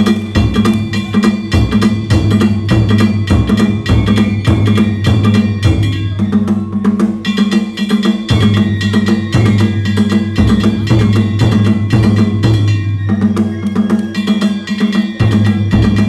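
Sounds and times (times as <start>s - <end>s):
drums beaten in fast rhythm: 0.0s - 16.0s
small gongs ringing: 0.0s - 16.0s.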